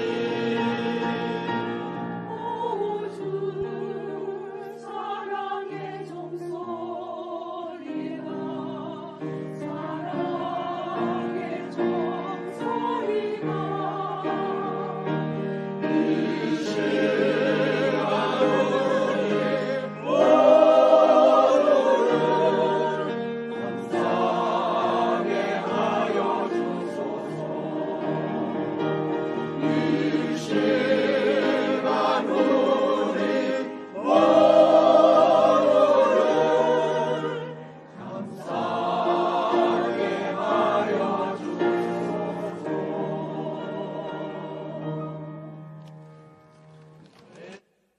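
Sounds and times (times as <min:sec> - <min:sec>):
choir singing a hymn: 0:00.0 - 0:45.8.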